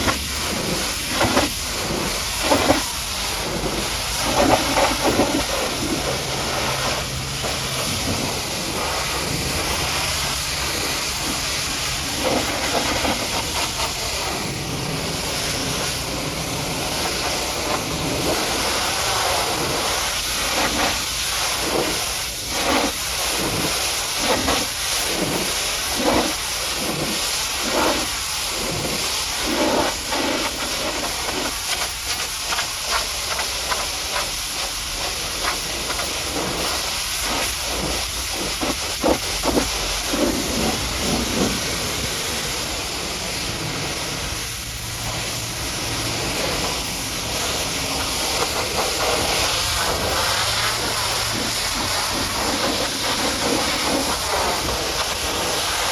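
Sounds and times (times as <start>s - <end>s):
pressure washer spraying water: 0.0s - 55.9s.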